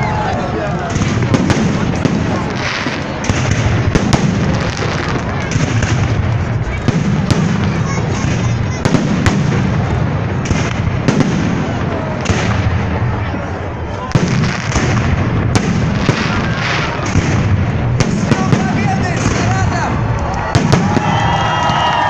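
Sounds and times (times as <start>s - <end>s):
continuous rumble: 0.0s - 22.0s
crowd voices: 0.0s - 22.0s
fireworks bangs and crackles: 0.0s - 22.0s.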